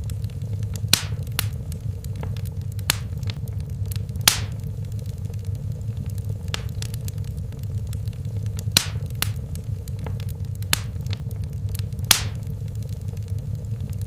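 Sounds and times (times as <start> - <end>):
fire crackling: 0.0 - 14.0
low steady rumble: 0.0 - 14.0
sharp pops of fire: 0.0 - 14.0.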